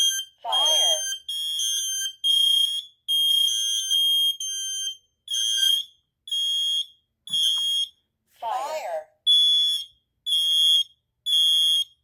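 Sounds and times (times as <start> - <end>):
smoke alarm beeps: 0.0 - 8.1, 9.3 - 12.0.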